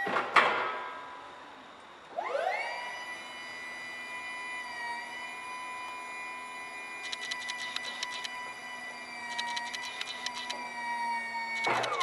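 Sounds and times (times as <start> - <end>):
hydraulic lift motor whining: 0.0 - 12.0.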